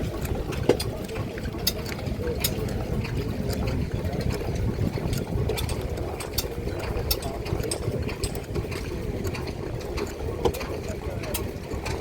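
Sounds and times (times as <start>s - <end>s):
stationary engines running: 0.0s - 12.0s.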